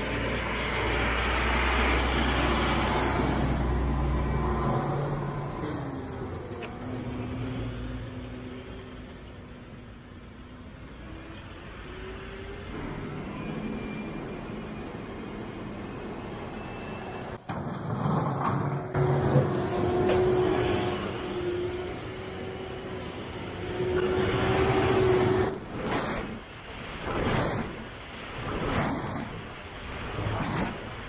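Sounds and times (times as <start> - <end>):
tractor engines droning: 0.0 - 31.0.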